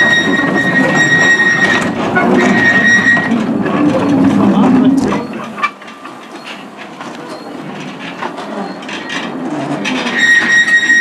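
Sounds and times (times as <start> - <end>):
wheels clicking over rail joints: 0.0 - 11.0.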